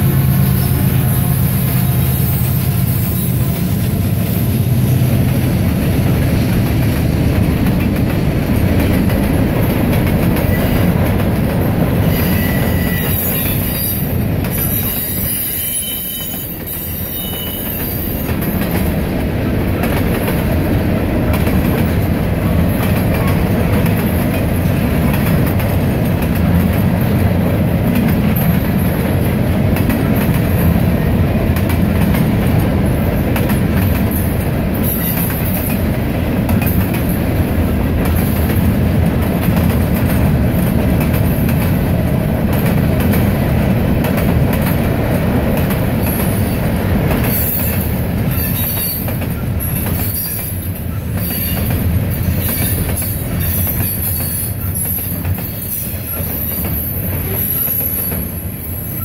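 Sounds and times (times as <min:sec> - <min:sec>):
diesel locomotive engine drone: 0:00.0 - 0:59.0
train wheels rumbling on rails: 0:00.0 - 0:59.0.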